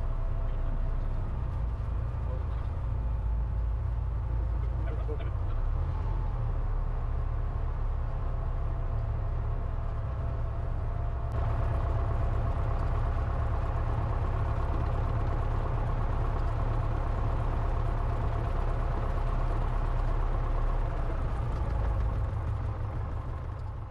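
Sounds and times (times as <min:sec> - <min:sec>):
small plane engine rumbling: 0:00.0 - 0:23.9.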